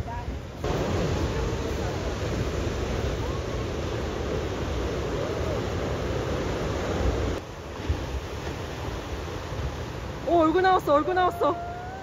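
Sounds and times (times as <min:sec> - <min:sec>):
ocean surf on rocky shore: 0:00.0 - 0:12.0.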